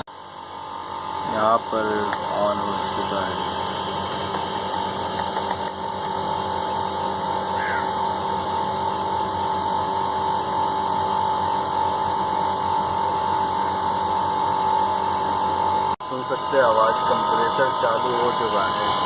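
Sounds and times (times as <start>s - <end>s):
compressor humming: 0.0s - 19.0s.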